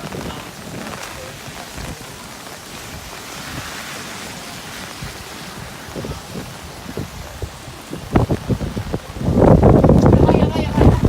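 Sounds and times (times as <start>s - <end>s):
heavy rain: 0.0s - 11.0s
wind gusts on microphone: 0.0s - 11.0s.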